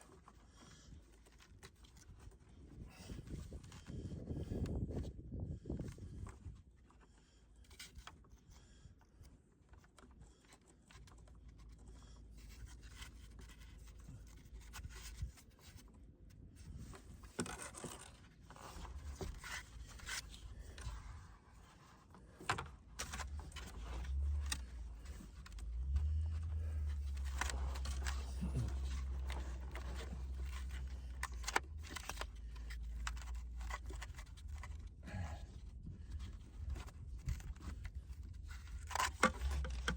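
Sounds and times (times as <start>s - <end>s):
scraping and rustling of handling: 0.0s - 39.9s.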